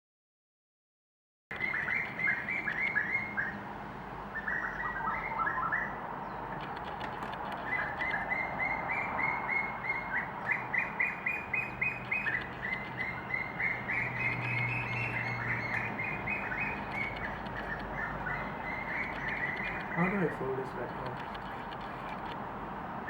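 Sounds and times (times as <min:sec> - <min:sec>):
birds chirping: 0:01.5 - 0:23.0.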